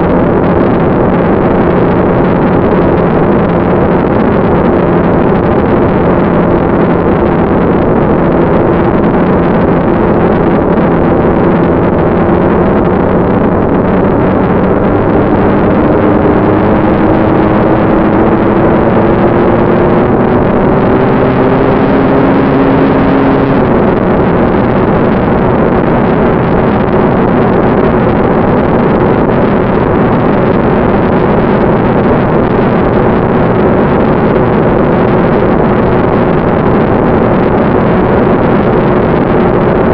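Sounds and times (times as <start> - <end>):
model jet electric fan running: 0.0 - 39.9.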